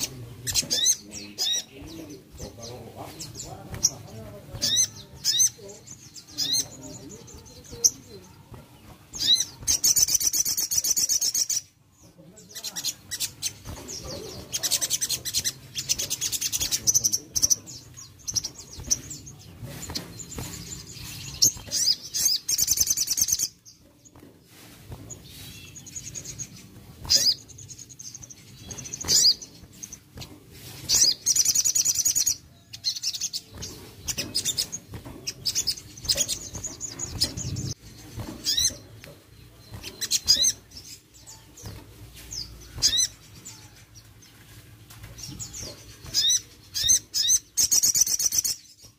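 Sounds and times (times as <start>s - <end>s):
bird chirping trills: 0.0s - 48.9s.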